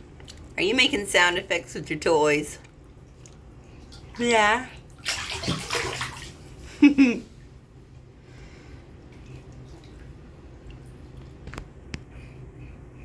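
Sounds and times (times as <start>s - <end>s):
faint water noises in bathtub: 0.0s - 13.0s.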